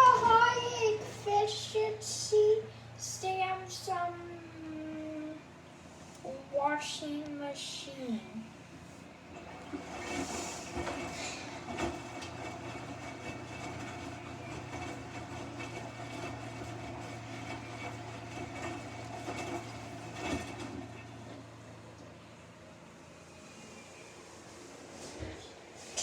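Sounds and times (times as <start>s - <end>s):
washing machine drum humming: 0.0s - 5.4s, 6.4s - 24.4s.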